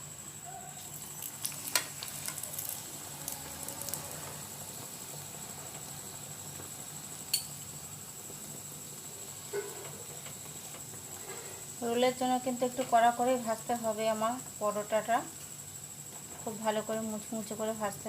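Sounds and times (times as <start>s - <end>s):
flatbread sizzling in oil: 0.0s - 18.0s.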